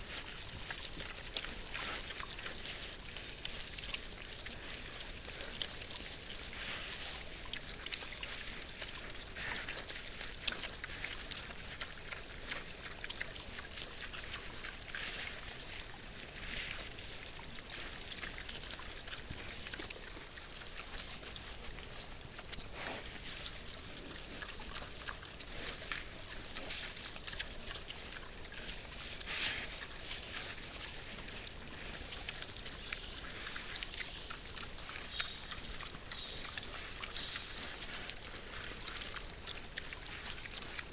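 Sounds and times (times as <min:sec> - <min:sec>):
boars rustling and crunching: 0:00.0 - 0:40.9.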